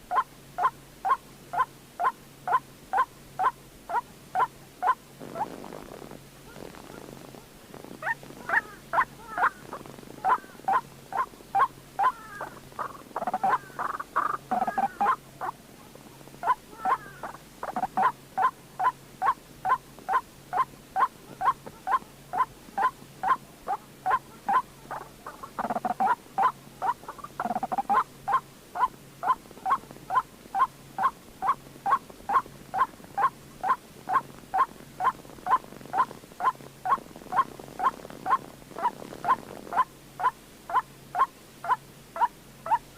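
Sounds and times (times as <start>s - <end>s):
waterhen calling: 0.1s - 5.5s, 8.0s - 15.6s, 16.4s - 42.9s.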